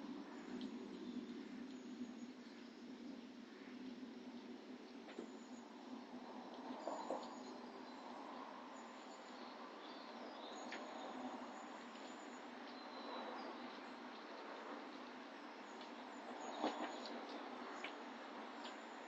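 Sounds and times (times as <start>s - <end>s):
songbirds chirping: 0.0s - 19.0s
steady background hiss: 0.0s - 19.0s.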